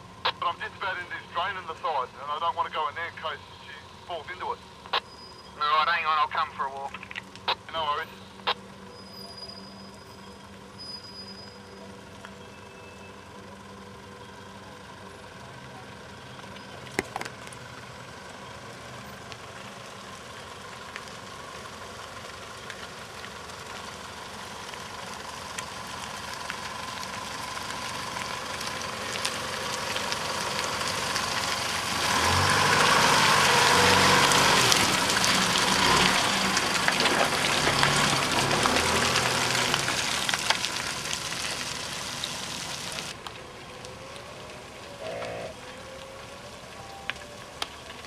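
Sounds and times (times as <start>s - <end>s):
truck engine passing: 0.0s - 48.0s
tyres in wet mud: 0.0s - 48.0s.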